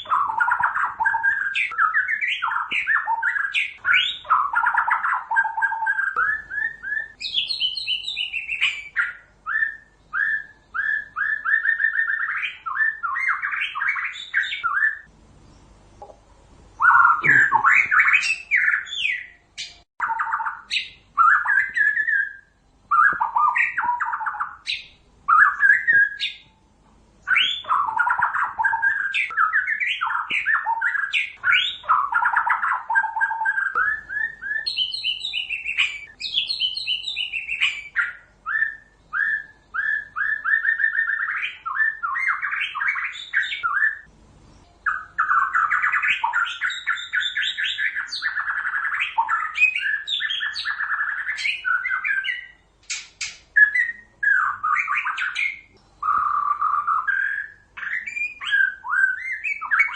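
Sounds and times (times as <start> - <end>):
bird singing whistled trills: 0.0 - 15.7, 16.8 - 59.9.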